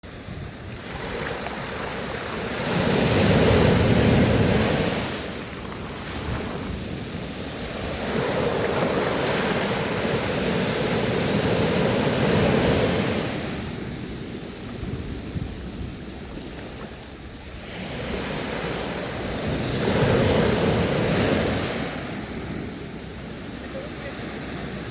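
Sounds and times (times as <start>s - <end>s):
sea waves breaking on shore: 0.0s - 24.9s.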